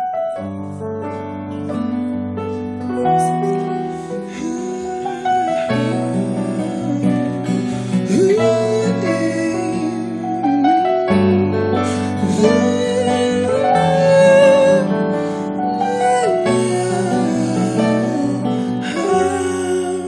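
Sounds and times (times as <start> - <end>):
piano chords: 0.0 - 20.0
man singing into a microphone: 3.0 - 20.0.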